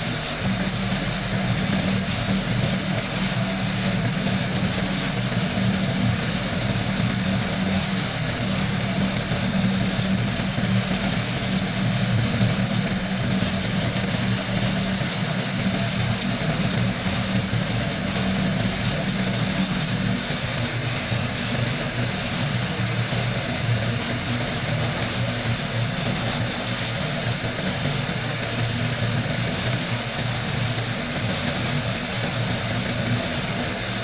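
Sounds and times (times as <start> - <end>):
low hum: 0.0 - 34.0
sandblaster hissing: 0.0 - 34.0.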